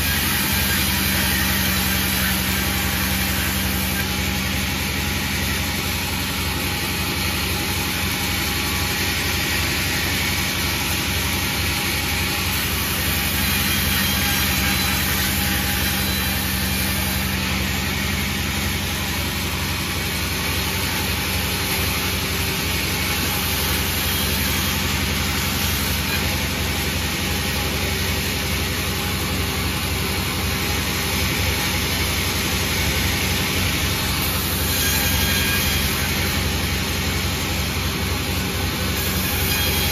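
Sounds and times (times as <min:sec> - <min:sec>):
sawmill machine drone with hiss: 0:00.0 - 0:39.9.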